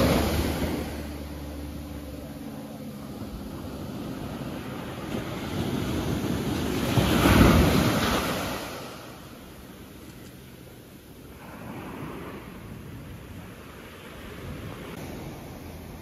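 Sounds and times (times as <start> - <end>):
wave breaking on beach: 0.0 - 9.4, 11.3 - 16.0.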